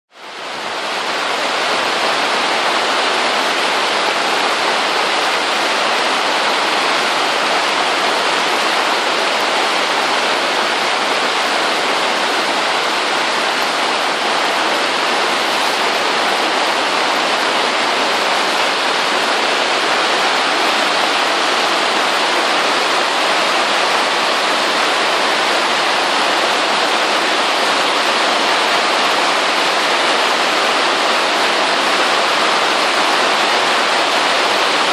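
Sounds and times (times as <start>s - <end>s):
rain on plastic sheeting: 0.1s - 34.9s.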